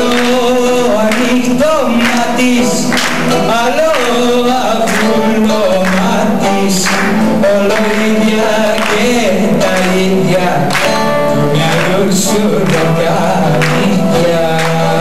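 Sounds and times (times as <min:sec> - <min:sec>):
electric guitar: 0:00.0 - 0:15.0
man singing into a microphone: 0:00.0 - 0:15.0.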